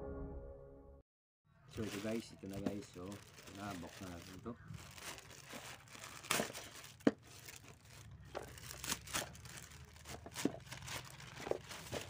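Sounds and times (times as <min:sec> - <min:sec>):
plastic mailer bag crinkling: 0:01.7 - 0:12.0.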